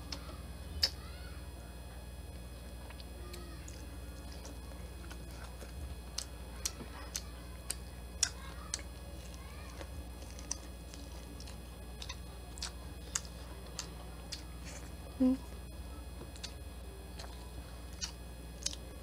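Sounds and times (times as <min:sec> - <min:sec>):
low steady hum: 0:00.0 - 0:19.0
chewing corn on the cob: 0:02.6 - 0:19.0.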